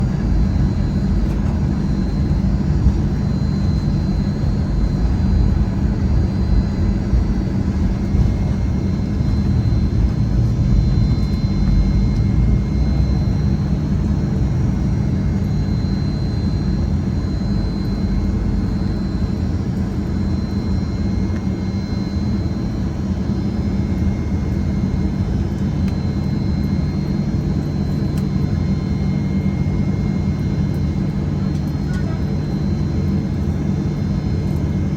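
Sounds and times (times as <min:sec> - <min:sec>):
faint high whine: 0:00.0 - 0:34.9
jet engine rumble in cabin: 0:00.0 - 0:34.9.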